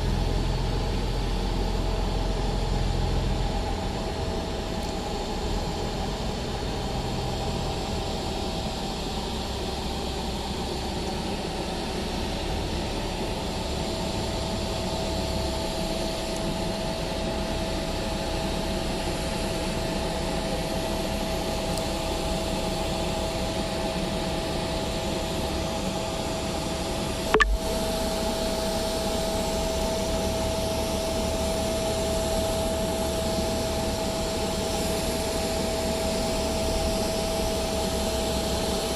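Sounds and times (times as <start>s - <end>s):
constant engine whine: 0.0s - 38.9s
jet engines idling hiss: 0.0s - 38.9s.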